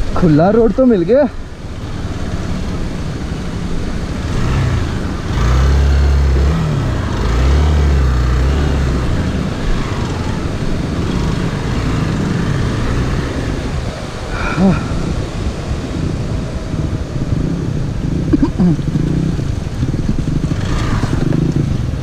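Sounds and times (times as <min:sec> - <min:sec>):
motorcycle engine revving: 0:01.3 - 0:22.0.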